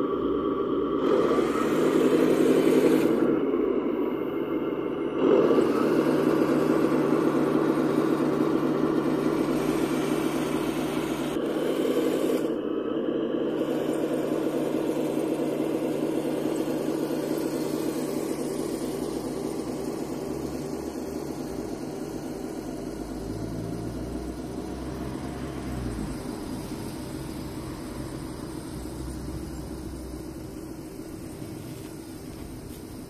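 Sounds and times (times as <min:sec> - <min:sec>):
simulated diesel engine sound: 0:00.0 - 0:33.0
drive motors whirring: 0:00.9 - 0:33.0.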